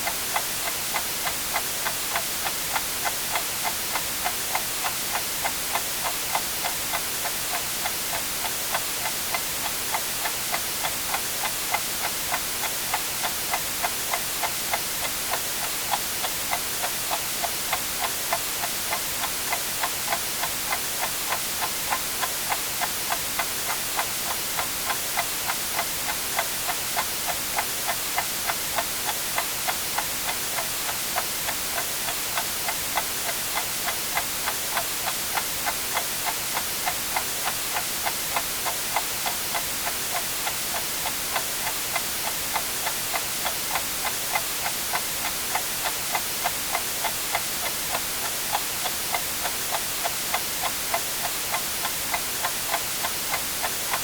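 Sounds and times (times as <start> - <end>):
white noise hiss: 0.0 - 54.0
clock ticking: 0.1 - 54.0.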